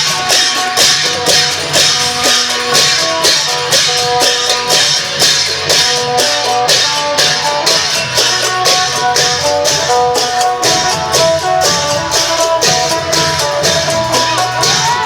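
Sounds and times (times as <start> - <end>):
drum ensemble beat: 0.0 - 15.0
plucked lute melody: 0.0 - 15.0.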